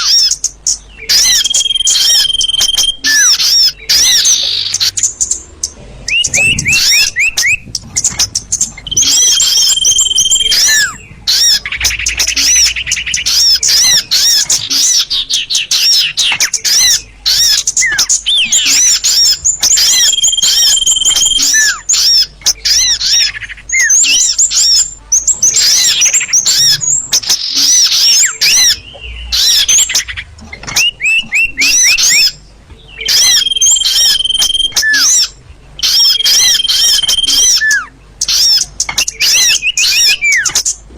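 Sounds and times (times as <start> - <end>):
recorded bird calls chips and trills: 0.0 - 40.9.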